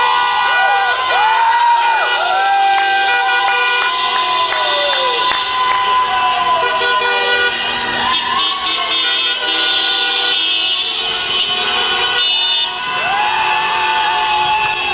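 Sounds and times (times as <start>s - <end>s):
car horns honking: 2.0s - 14.0s.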